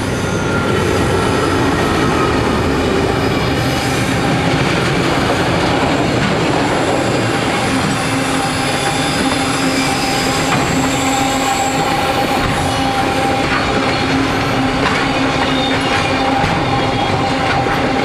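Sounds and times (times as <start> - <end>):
train wheels rumbling and rattling: 0.0 - 18.0
wheels squealing: 0.0 - 18.0.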